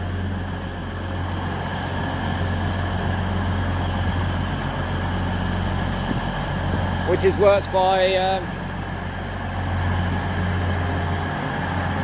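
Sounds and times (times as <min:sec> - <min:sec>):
train diesel engine idling: 0:00.0 - 0:12.0.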